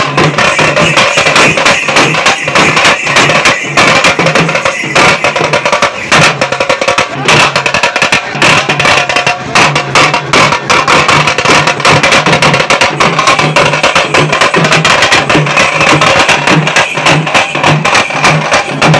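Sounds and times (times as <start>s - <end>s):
drums beaten with sticks: 0.0s - 18.9s.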